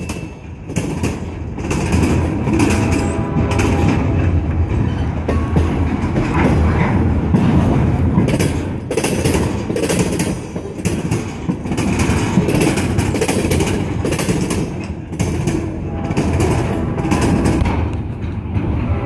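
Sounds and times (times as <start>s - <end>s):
train wheels clacking on track: 0.0s - 19.0s.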